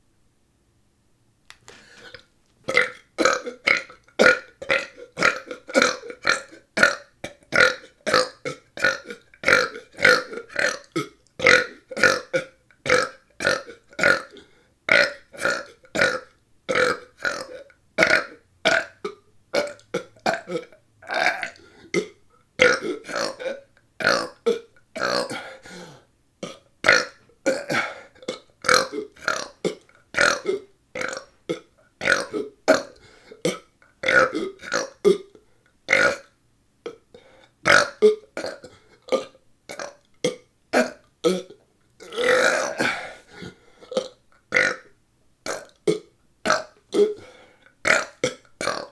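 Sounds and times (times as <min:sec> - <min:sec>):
person burping rapidly: 0:02.0 - 0:36.3, 0:36.9 - 0:48.9.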